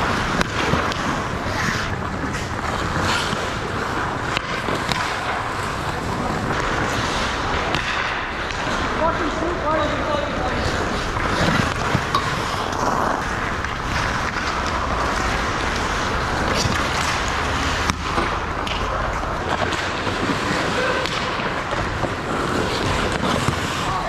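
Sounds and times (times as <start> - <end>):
hockey sticks and puck clacking: 0.0 - 24.0
skates scraping on ice: 0.0 - 24.0.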